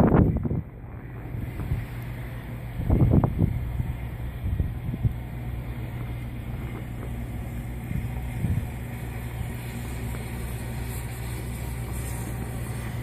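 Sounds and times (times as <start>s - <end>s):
motor humming steadily: 0.0s - 13.0s.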